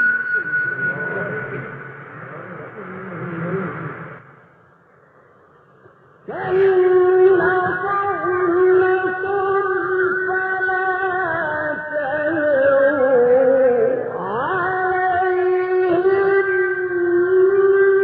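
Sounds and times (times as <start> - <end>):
man chanting melodically: 0.0 - 4.3, 6.3 - 18.0.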